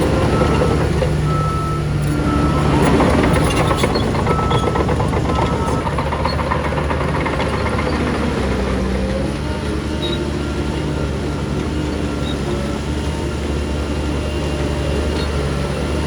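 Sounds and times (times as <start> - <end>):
diesel machinery droning: 0.0 - 16.0.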